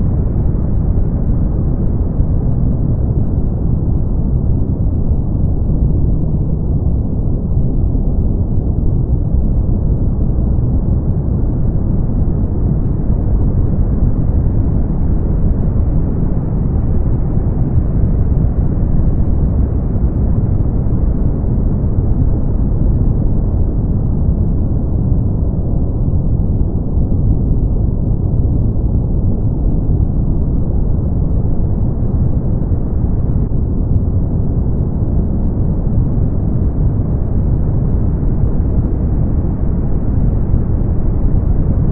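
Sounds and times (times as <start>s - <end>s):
brown noise: 0.0s - 41.9s.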